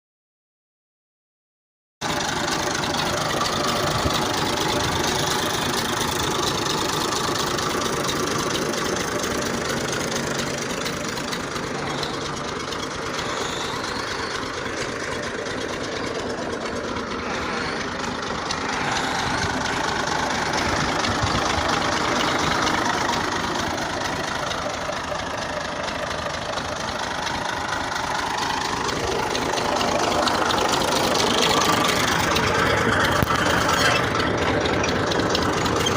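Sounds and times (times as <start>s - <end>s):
tractor engine idling: 2.0s - 35.9s.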